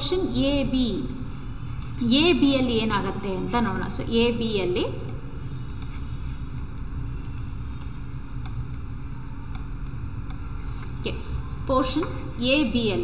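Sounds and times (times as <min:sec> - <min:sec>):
low rumble with hiss: 0:00.0 - 0:13.0.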